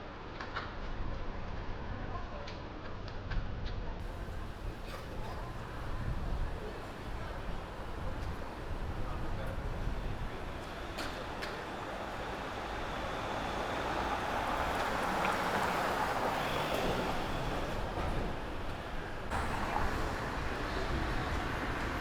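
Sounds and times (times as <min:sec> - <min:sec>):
vehicle passing: 0:04.0 - 0:22.0.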